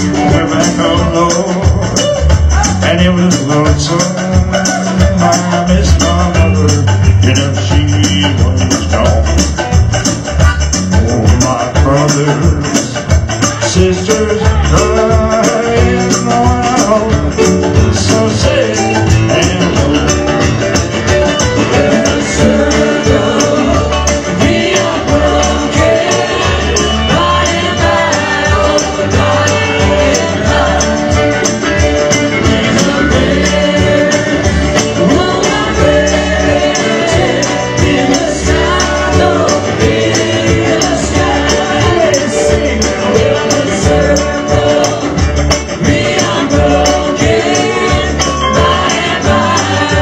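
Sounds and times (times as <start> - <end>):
music with quick percussive beat: 0.0 - 50.0.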